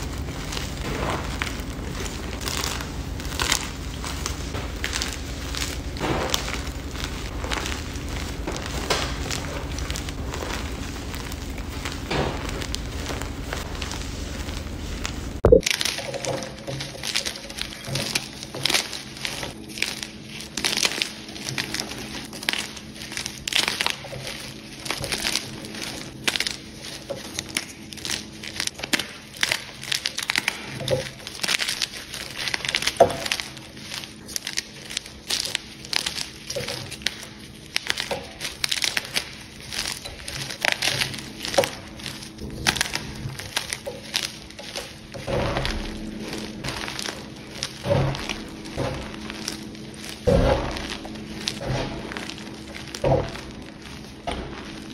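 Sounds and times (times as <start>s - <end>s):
chalk blocks crunching in hands: 0.0s - 54.9s.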